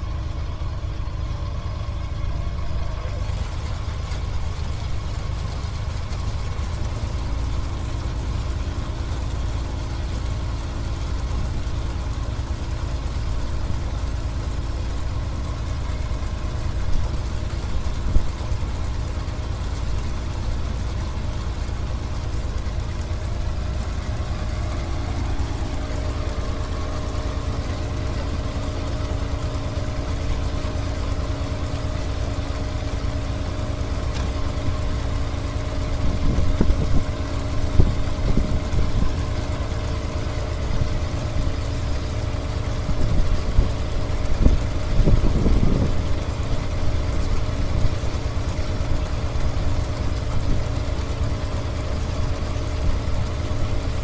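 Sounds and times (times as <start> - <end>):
auger pouring grain into lorry: 0.0 - 54.0
combine harvester engine running: 0.0 - 54.0.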